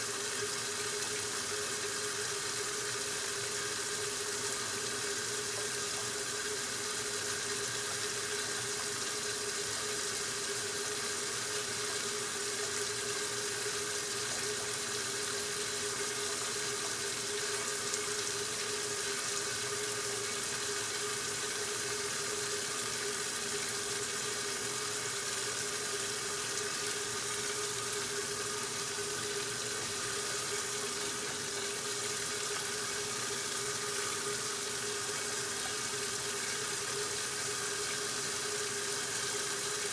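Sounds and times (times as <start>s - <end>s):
washing machine hum: 0.0s - 39.9s
washing machine water rushing: 0.0s - 39.9s.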